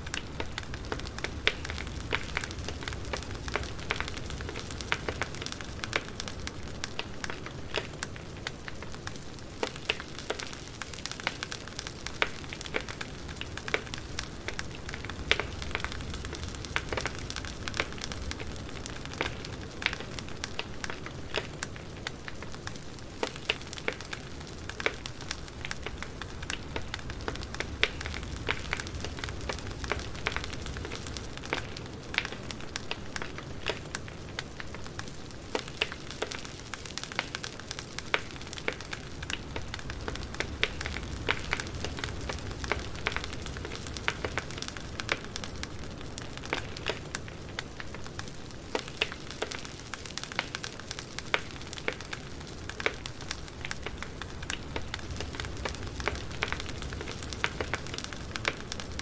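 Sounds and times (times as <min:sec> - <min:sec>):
campfire crackling: 0:00.0 - 0:59.0
hiss of flames: 0:00.0 - 0:59.0.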